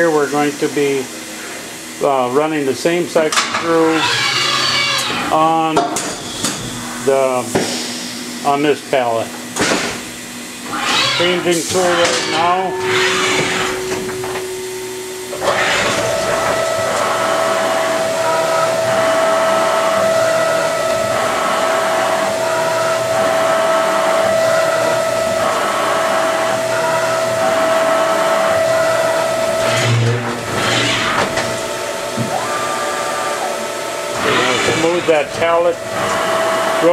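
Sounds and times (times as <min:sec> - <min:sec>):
machine spindle whine: 0:00.0 - 0:07.6, 0:10.2 - 0:36.9.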